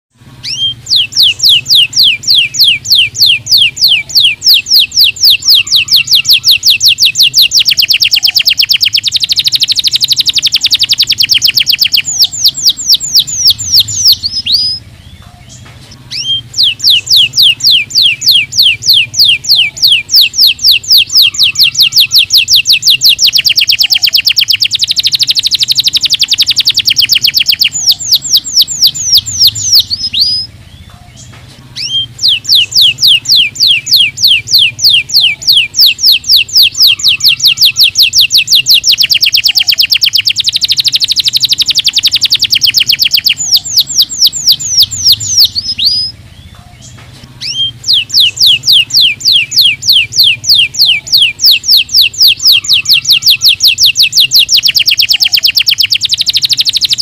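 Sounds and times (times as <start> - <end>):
canary singing trills: 0.1 - 57.0.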